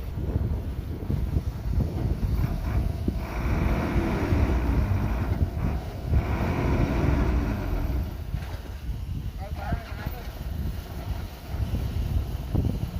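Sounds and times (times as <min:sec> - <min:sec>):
diesel engine rumbling: 0:00.0 - 0:12.9
wind buffeting microphone: 0:00.0 - 0:12.9.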